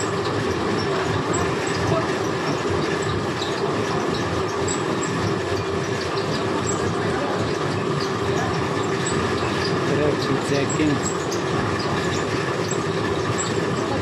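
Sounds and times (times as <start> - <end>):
fabric machine rattling: 0.0 - 14.0.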